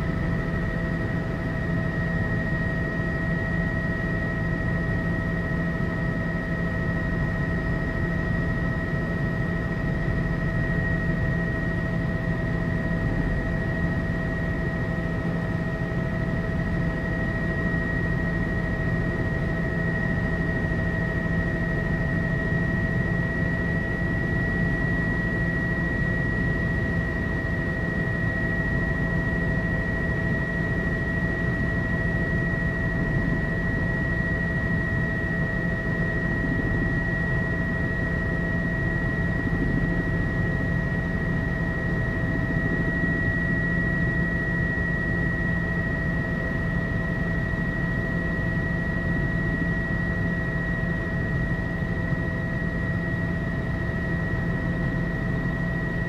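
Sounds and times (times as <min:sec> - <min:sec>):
helicopter cabin drone: 0:00.0 - 0:56.0.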